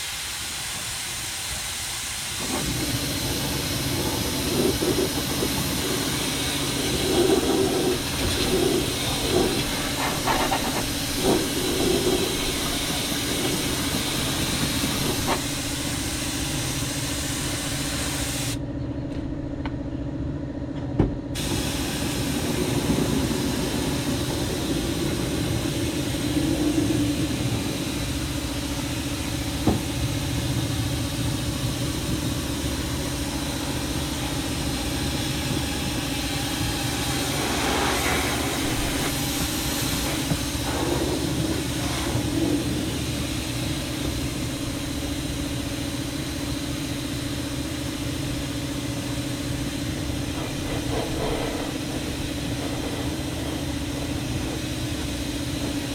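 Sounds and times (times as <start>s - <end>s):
spray gun air hiss: 0.0s - 18.6s, 21.4s - 31.3s, 32.8s - 55.9s
air compressor motor running: 2.4s - 18.6s, 21.4s - 55.9s.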